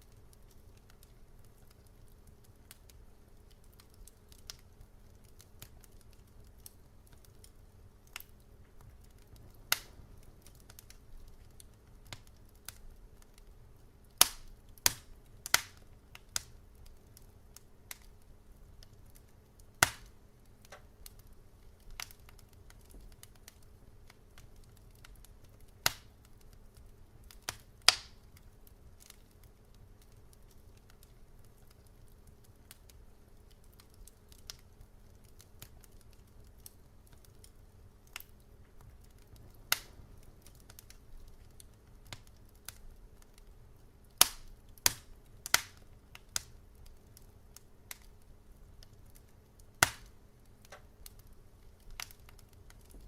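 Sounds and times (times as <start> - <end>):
faint low hum: 0.0 - 53.0
wood fire crackling and popping: 0.0 - 53.0.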